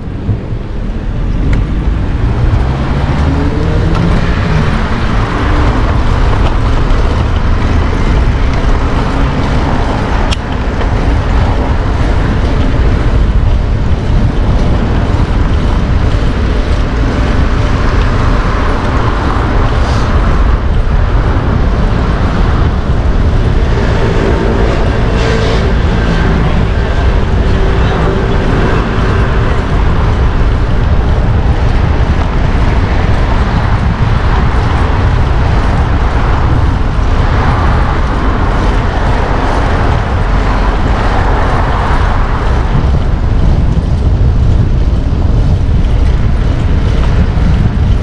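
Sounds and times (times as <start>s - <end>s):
motor vehicle speeding up: 0.0s - 48.0s
steady engine hum: 0.0s - 48.0s
street traffic: 0.0s - 48.0s
wind rumbling on microphone: 0.0s - 48.0s.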